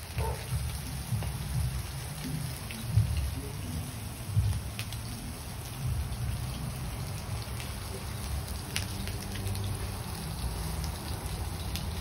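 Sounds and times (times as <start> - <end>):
meat sizzling on grill pan: 0.0 - 12.0.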